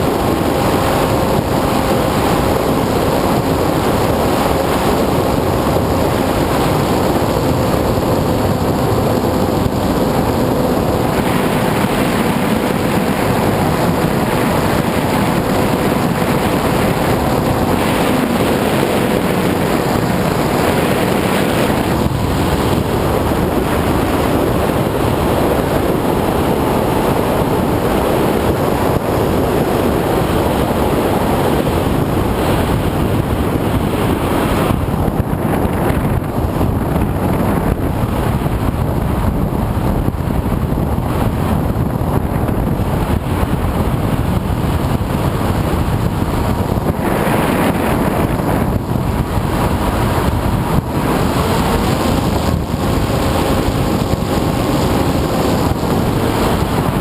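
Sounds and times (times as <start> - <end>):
model aircraft motor drone: 0.0 - 57.0
wind rush over microphone: 0.0 - 57.0.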